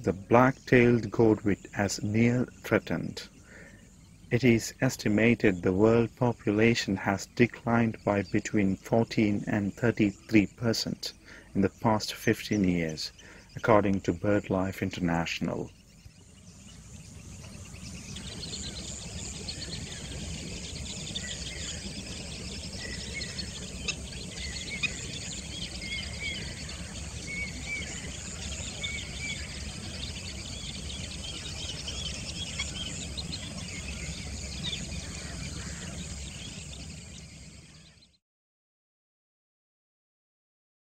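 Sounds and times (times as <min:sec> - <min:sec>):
low steady hum: 0:00.0 - 0:37.9
insects calling: 0:00.0 - 0:38.2
small birds chirping: 0:00.0 - 0:38.2.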